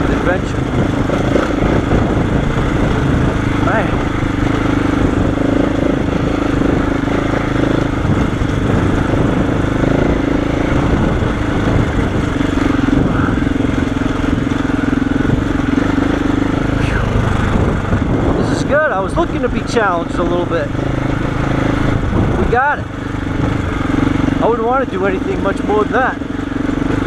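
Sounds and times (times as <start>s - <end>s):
motorcycle engine running at low revs: 0.0s - 27.0s.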